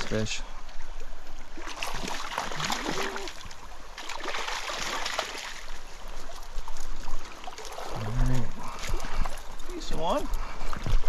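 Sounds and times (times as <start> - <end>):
stream water running: 0.0 - 11.0
water splashing: 1.4 - 11.0.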